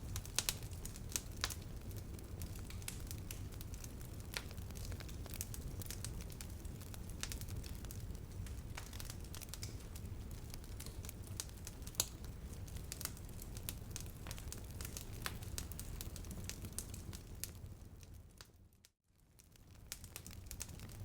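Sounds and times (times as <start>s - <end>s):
fire pops and snaps: 0.0s - 18.5s, 19.4s - 21.0s
bonfire flames rumbling: 0.0s - 21.0s.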